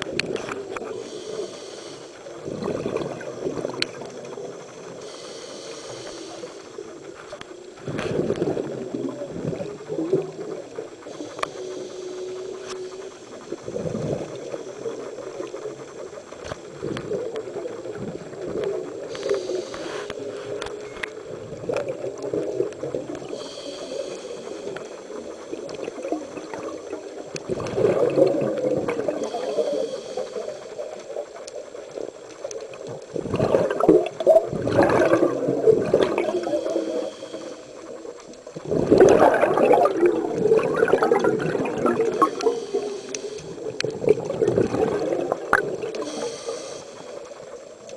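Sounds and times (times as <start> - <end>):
underwater regulator bubbling: 2.4 - 5.1, 5.8 - 31.3, 32.0 - 47.9.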